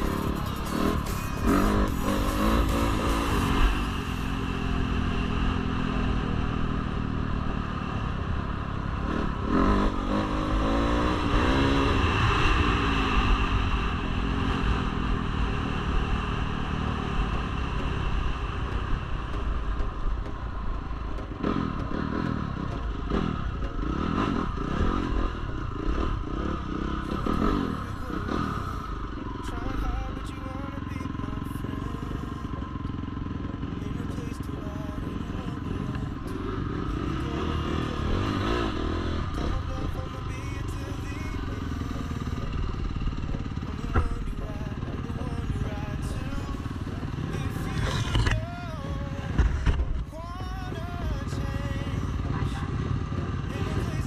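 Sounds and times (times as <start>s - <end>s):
dirt bike engine revving: 0.0s - 19.6s, 21.4s - 54.0s
gravel rattling under tyres: 0.0s - 54.0s.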